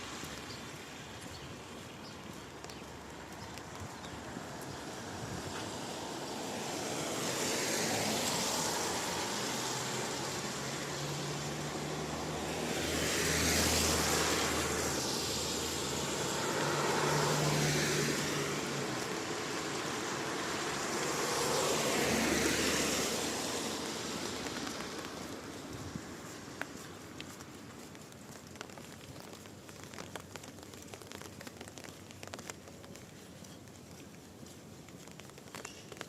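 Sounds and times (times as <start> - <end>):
cars passing on wet road: 0.0 - 36.0
rain: 0.0 - 36.0.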